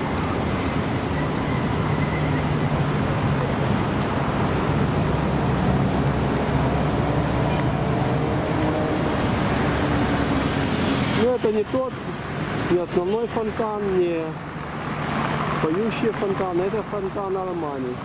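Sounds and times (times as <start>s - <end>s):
tyres rushing on road: 0.0s - 18.0s
vehicle engines humming: 0.0s - 18.0s.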